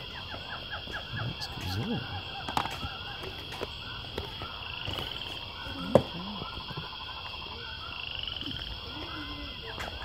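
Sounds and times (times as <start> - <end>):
chorus of small calling animals: 0.0 - 10.0.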